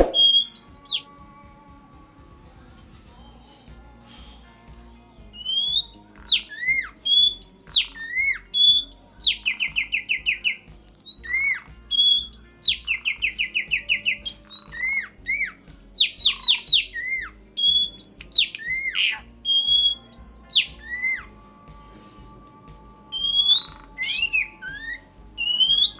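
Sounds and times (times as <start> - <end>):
birds singing whistled notes: 0.0 - 1.1, 5.3 - 22.3, 23.1 - 25.9.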